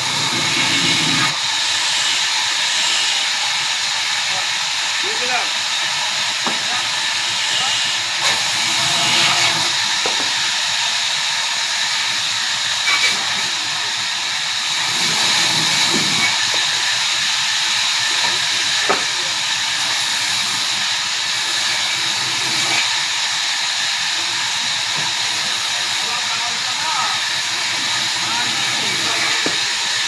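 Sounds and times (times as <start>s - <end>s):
sawmill machine hissing: 0.0s - 30.0s.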